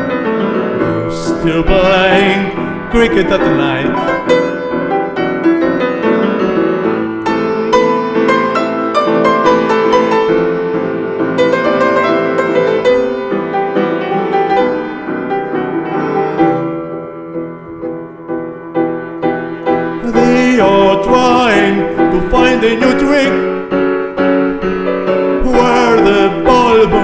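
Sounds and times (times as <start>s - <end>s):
piano notes and chords: 0.0s - 27.0s.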